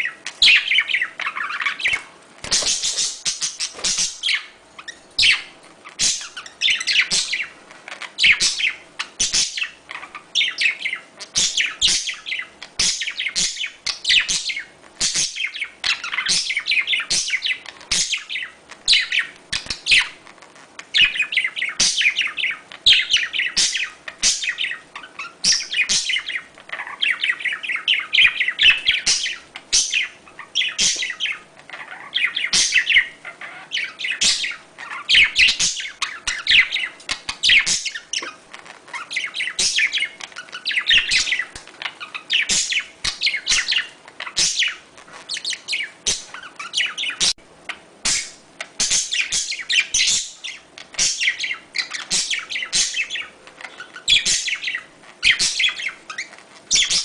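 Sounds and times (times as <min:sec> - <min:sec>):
budgerigars chattering and chirping: 0:00.0 - 0:20.2, 0:20.9 - 0:57.0.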